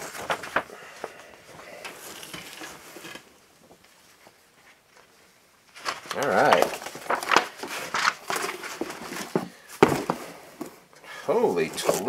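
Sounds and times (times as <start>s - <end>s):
paper poster rustling: 0.0s - 10.4s, 11.4s - 12.0s.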